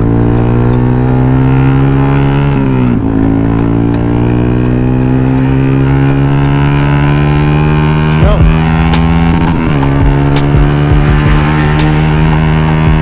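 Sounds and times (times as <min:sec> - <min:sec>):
motorcycle engine running loud: 0:00.0 - 0:13.0.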